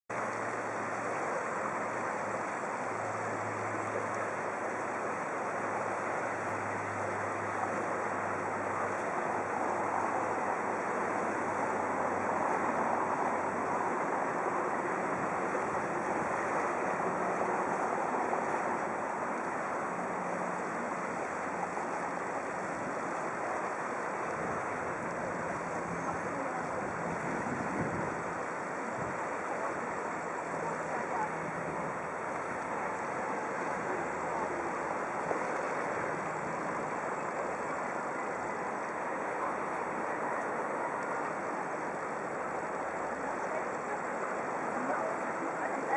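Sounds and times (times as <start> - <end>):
river rushing: 0.1 - 45.9.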